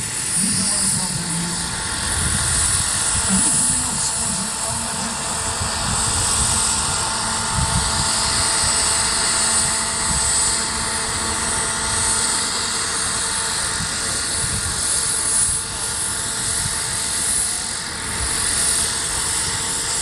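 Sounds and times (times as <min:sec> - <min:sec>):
gas turbine whine: 0:00.0 - 0:20.0
helicopter rotor noise: 0:00.0 - 0:20.0.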